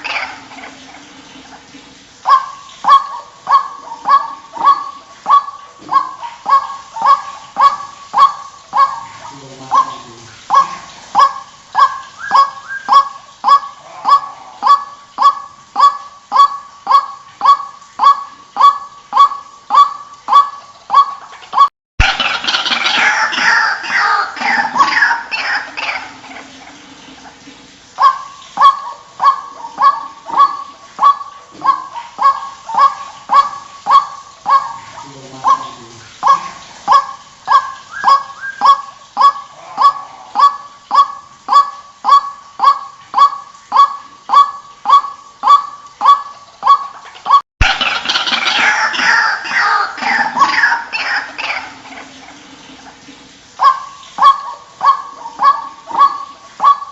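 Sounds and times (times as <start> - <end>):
waterhen harsh call: 0.0 - 56.9.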